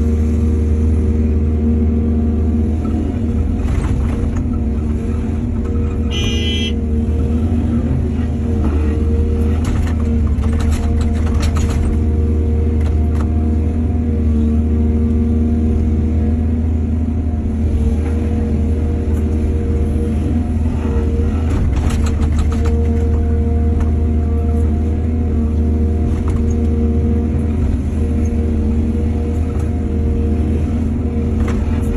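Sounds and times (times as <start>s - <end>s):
diesel machinery engine running: 0.0s - 31.9s.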